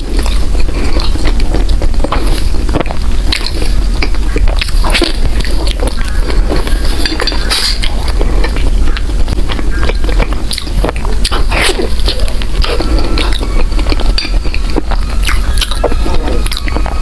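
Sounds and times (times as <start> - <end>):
person chewing bread: 0.0 - 17.0.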